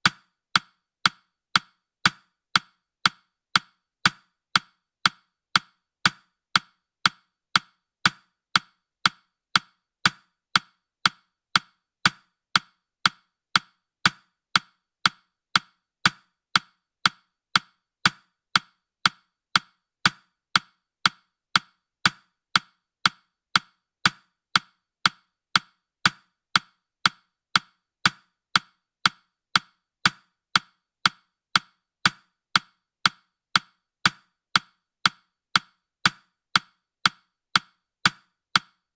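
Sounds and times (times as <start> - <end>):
clock-like ticks: 0.0 - 38.9.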